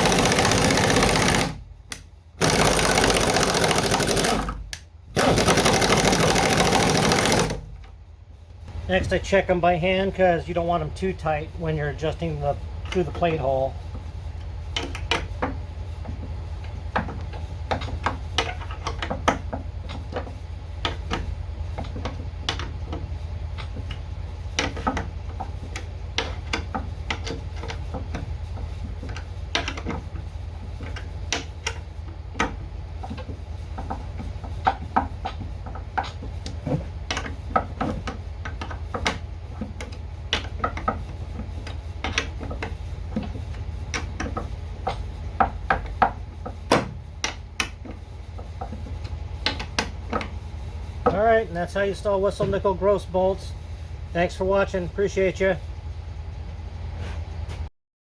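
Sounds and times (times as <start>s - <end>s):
steady low hum: 0.0s - 57.7s.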